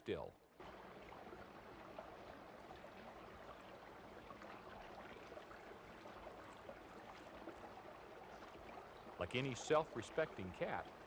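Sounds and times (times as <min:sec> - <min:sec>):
stream running water: 0:00.0 - 0:11.0.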